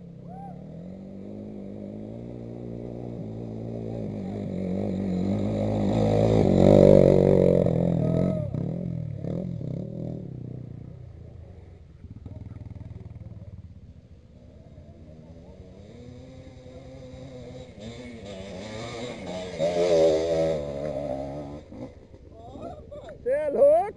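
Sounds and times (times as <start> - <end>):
off-road vehicle engine under load: 0.0 - 23.7.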